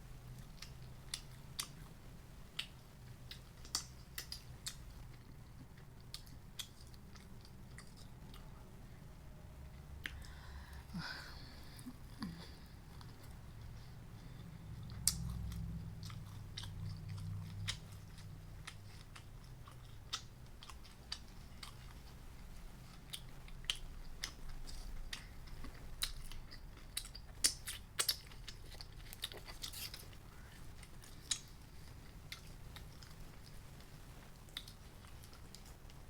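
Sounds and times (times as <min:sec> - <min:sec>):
person chewing crunchy food: 0:00.4 - 0:08.5, 0:10.0 - 0:36.0.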